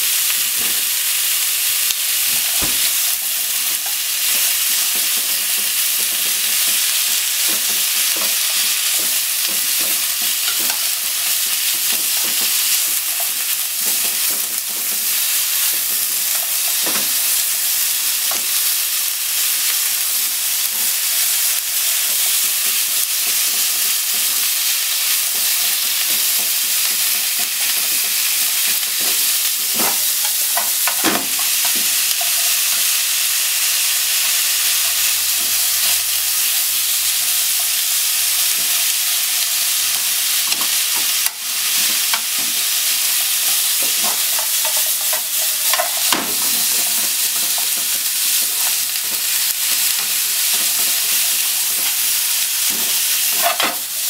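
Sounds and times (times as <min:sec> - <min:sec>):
meat and onion sizzling in pan: 0:00.0 - 0:54.0.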